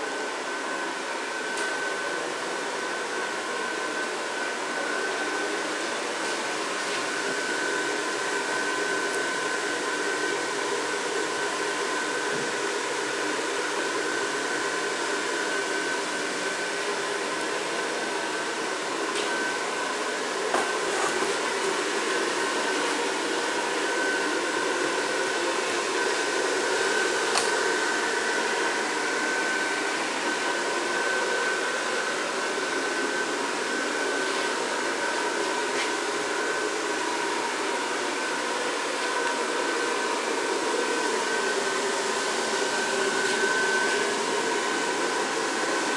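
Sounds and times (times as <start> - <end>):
electric blower fan whirring: 0.0 - 45.9.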